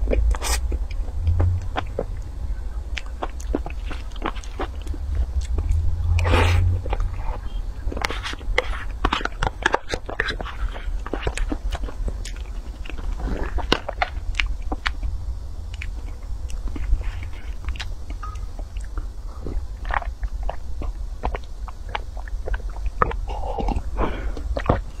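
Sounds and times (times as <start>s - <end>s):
wet chewing and crunches: 0.0s - 25.0s.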